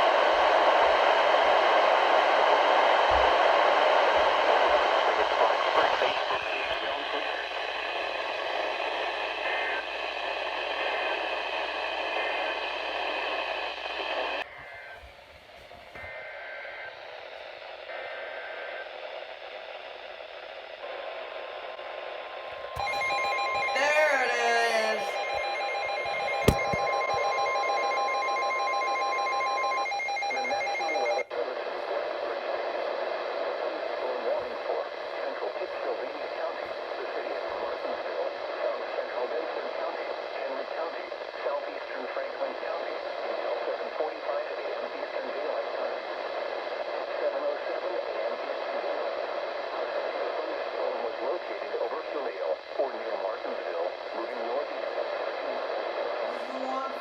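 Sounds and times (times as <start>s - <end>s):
radio static hiss: 1.6s - 57.0s.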